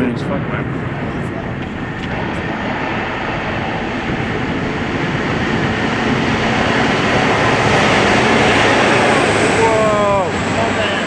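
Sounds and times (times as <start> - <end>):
rail vehicle rumbling in tunnel: 0.0 - 11.0.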